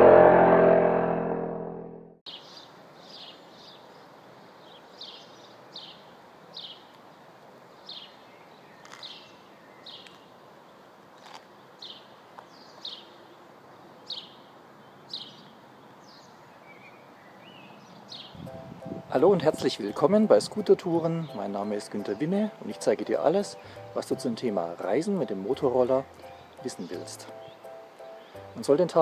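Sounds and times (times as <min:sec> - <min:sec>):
songbird chirping: 0:02.3 - 0:10.9, 0:11.5 - 0:29.0
faint outdoor hiss: 0:02.3 - 0:29.0.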